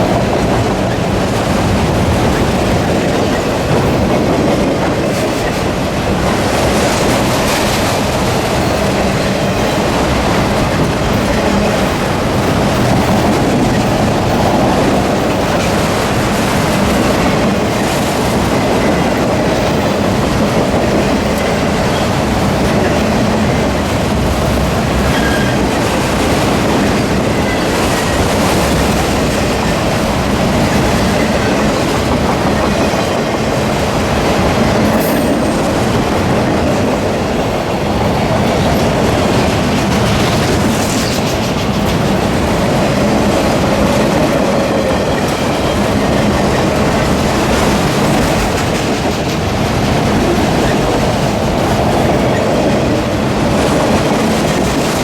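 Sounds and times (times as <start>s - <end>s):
train wheels clattering over rails: 0.0s - 55.0s
train wheel squeals: 6.4s - 33.5s, 34.4s - 36.0s, 38.4s - 55.0s.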